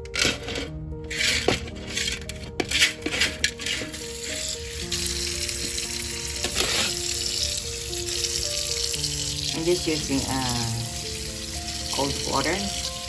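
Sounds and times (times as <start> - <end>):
pebbles rattling in a strainer: 0.0 - 13.0
soft background music: 0.0 - 13.0
tap water running: 0.0 - 13.0.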